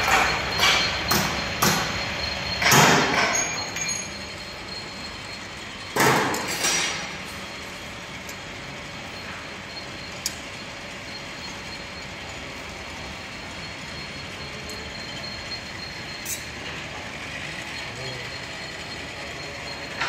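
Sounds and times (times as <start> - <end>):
sheet leveling machine running: 0.0 - 20.0.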